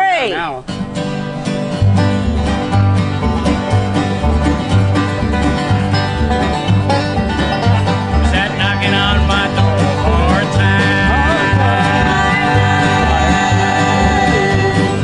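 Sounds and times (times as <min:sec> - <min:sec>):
bluegrass band playing: 0:00.0 - 0:15.0
rolling banjo: 0:00.9 - 0:15.0.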